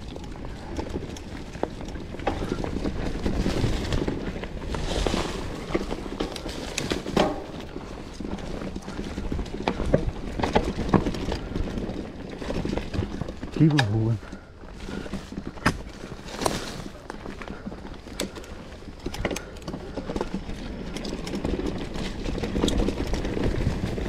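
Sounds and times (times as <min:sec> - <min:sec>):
bike rattling over bumps: 0:00.0 - 0:24.0
bike tyres crunching on trail: 0:00.0 - 0:24.0.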